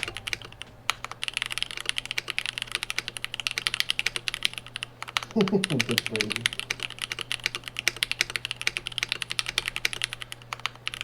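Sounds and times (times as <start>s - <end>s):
typing on mechanical keyboard: 0.0s - 11.0s.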